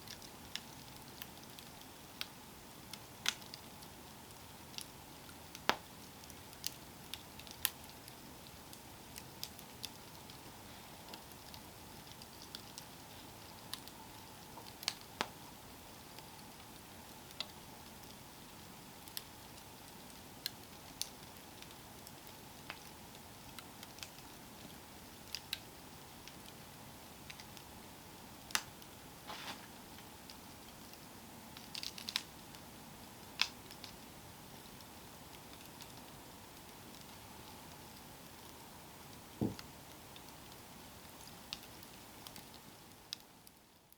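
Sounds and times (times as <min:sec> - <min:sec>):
burning wood crackling and popping: 0:00.0 - 0:43.9
campfire hiss: 0:00.0 - 0:43.9.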